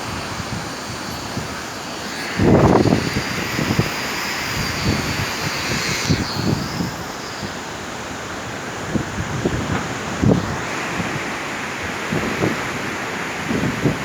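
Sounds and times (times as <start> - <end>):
rough sea surf: 0.0 - 14.0
wind gusting over microphone: 0.0 - 14.0.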